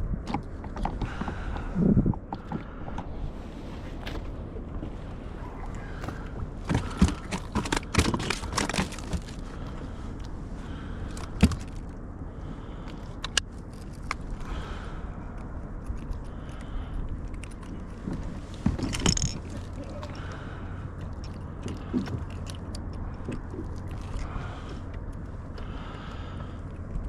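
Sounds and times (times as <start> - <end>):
gear clicking and scraping in kayak: 0.0 - 27.0
steady low rumble: 0.0 - 27.0.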